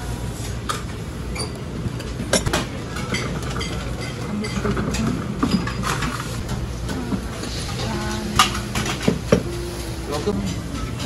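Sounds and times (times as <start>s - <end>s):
dishes and cutlery clinking: 0.7s - 11.0s.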